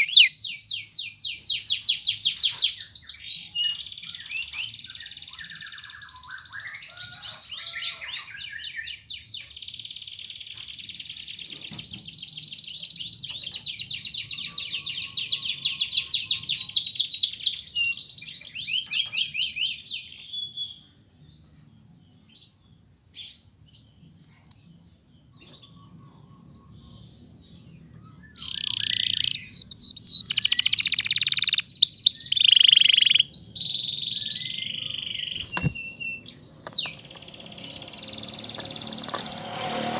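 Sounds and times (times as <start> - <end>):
canary chirps: 0.0 - 20.8, 23.0 - 39.3
canary singing trills: 0.0 - 20.8, 23.1 - 39.3.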